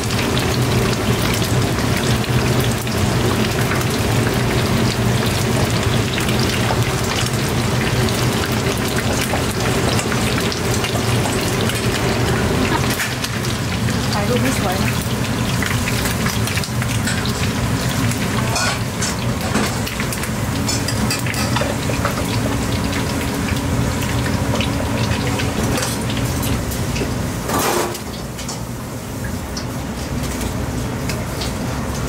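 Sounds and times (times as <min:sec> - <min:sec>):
hot oil sizzling and crackling: 0:00.0 - 0:32.0.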